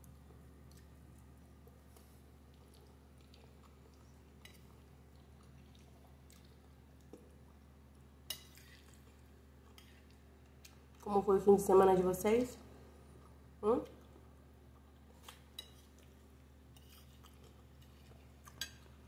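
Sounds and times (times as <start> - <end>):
chewing and mouth clicks: 0.0 - 11.1, 14.0 - 19.0
low steady hum: 0.0 - 19.0.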